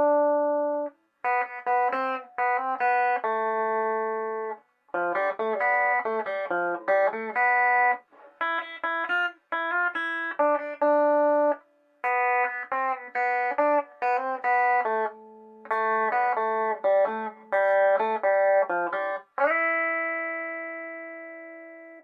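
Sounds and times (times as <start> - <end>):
guitar plucking single notes: 0.0 - 22.0.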